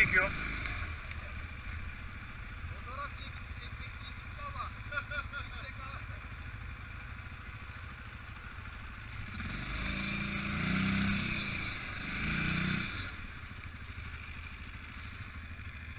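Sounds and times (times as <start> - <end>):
atv engine idling and revving: 0.0 - 15.9.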